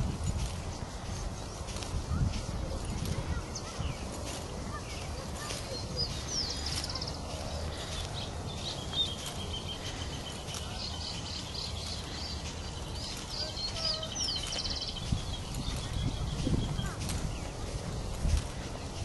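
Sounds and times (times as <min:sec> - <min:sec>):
birds singing: 0:00.3 - 0:19.0.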